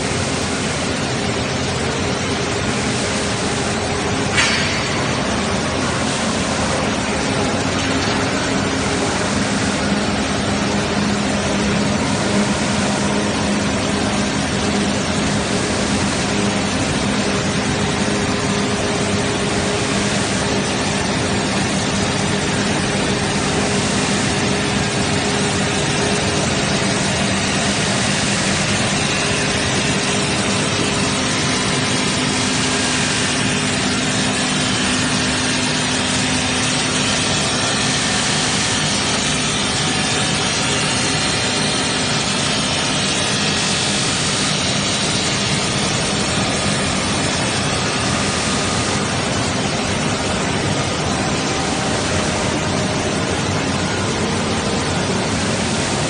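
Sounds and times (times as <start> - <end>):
constant low hum: 0.0 - 56.0
tube mill machinery running: 0.0 - 56.0.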